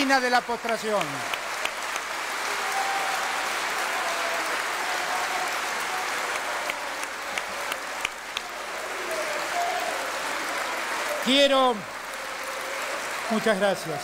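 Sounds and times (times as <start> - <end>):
audience applause: 0.0 - 14.0.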